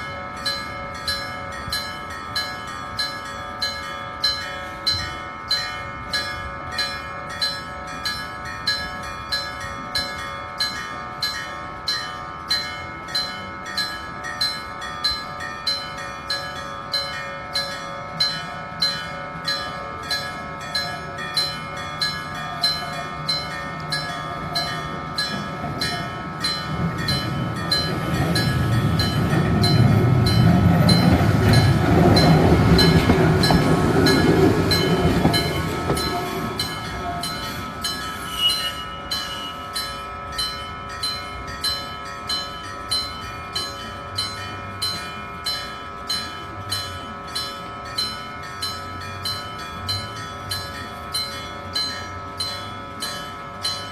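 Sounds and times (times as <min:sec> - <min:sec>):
level-crossing warning bell dinging: 0:00.0 - 0:53.9
tram wheels and motors rumbling: 0:00.0 - 0:53.9.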